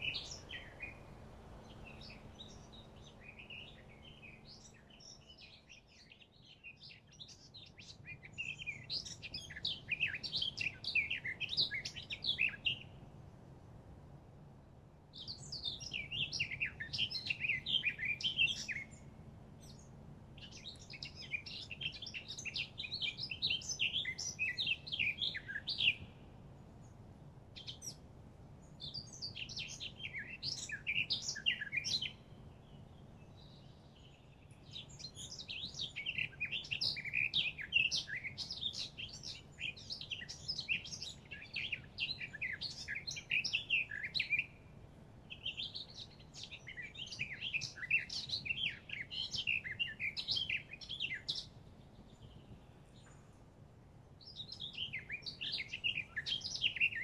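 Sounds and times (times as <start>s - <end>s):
songbird twittering: 0.0s - 13.0s, 15.1s - 26.9s, 27.6s - 28.0s, 28.6s - 53.2s, 54.2s - 57.0s.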